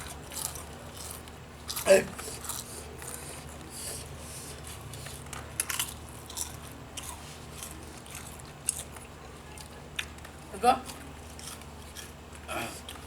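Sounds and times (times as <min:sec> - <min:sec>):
mouth chewing crunchy chips: 0:00.0 - 0:13.0.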